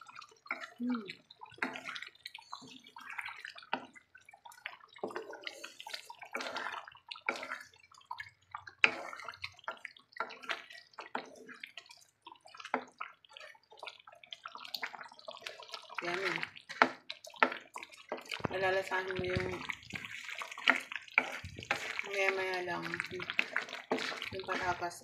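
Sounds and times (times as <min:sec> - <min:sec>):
stew bubbling in a pot: 0:00.0 - 0:25.0.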